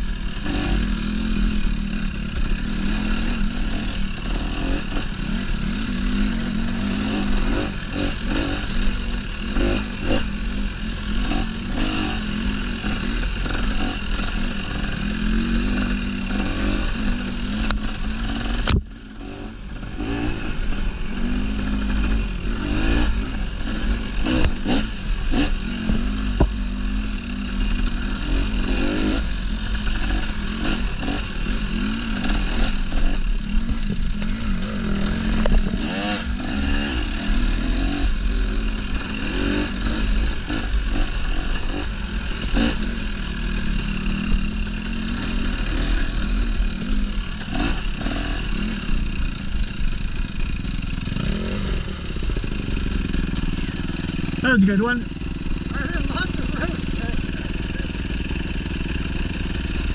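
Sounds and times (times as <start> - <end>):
bike rattling over rough ground: 0.0 - 59.9
dirt bike engine: 0.0 - 59.9.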